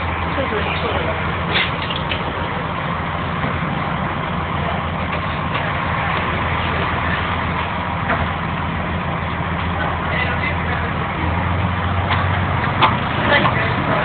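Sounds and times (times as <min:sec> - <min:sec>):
constant rushing noise: 0:00.0 - 0:14.0
ferry engines droning: 0:00.0 - 0:14.0.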